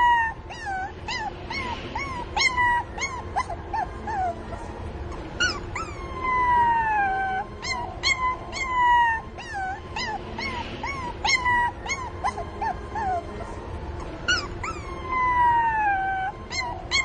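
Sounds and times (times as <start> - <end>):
puppies whimpering and yelping: 0.0 - 17.0.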